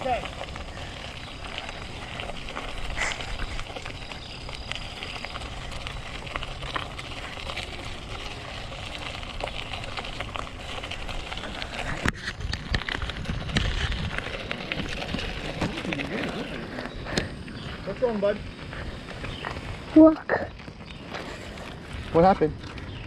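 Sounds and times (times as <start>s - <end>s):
bicycle tyres crackling over dirt: 0.0s - 23.0s
wind rumbling on microphone: 0.0s - 23.0s.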